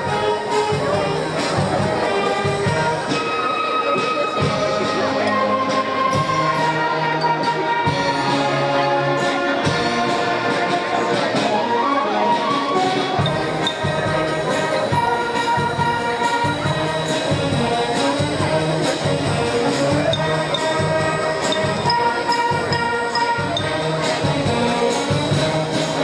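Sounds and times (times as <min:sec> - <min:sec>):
percussion beat: 0:00.0 - 0:11.6, 0:12.5 - 0:26.0
brass band music: 0:00.0 - 0:26.0.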